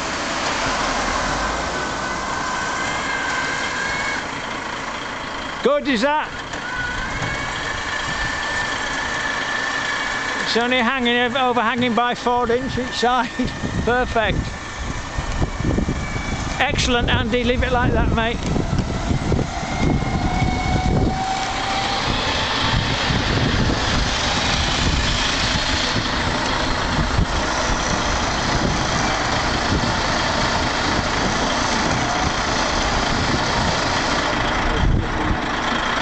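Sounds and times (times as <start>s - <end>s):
thin whine: 0.0s - 4.9s, 6.1s - 35.4s
diesel truck engine idling: 0.0s - 36.0s.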